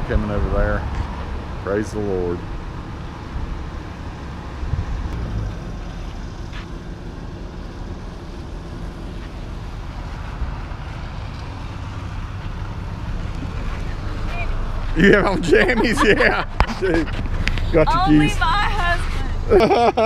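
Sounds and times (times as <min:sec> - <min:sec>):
car driving up: 0:00.0 - 0:20.0
truck engine idling: 0:00.0 - 0:20.0.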